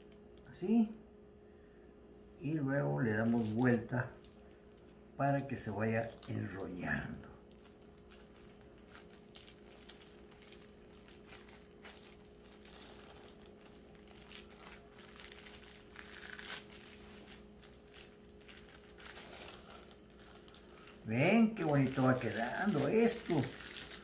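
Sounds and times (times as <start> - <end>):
steady hum: 0.0 - 24.0
plastic film crinkling: 3.0 - 24.0.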